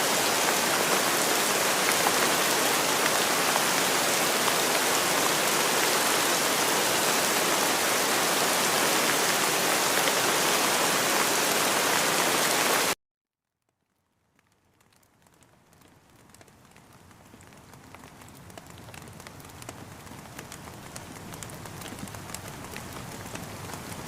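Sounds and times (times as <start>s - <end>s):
steady rain hiss: 0.0s - 13.0s, 14.1s - 24.0s.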